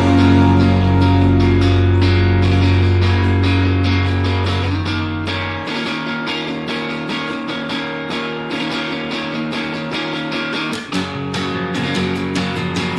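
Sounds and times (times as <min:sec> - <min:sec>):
guitar music with steady beat: 0:00.0 - 0:12.9.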